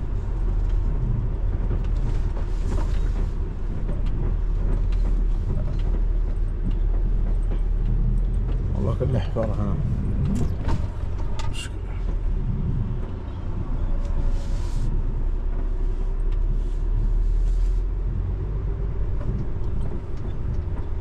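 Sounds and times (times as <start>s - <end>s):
truck diesel engine rumbling: 0.0s - 21.0s.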